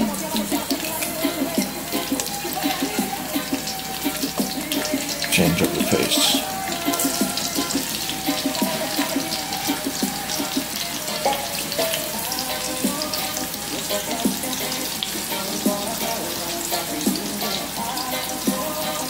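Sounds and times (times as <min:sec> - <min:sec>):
music playing: 0:00.0 - 0:19.0
vegetables sizzling in oil: 0:00.0 - 0:19.0.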